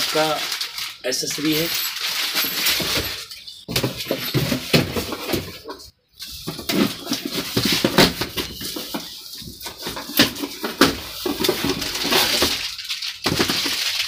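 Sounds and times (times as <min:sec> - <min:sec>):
plastic bags crinkling: 0:00.0 - 0:05.4, 0:06.2 - 0:14.0.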